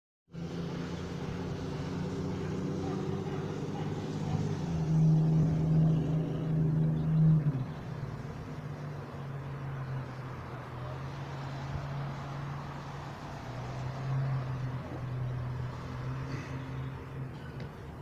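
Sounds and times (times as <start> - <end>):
vehicle engine humming: 0.3 - 18.0.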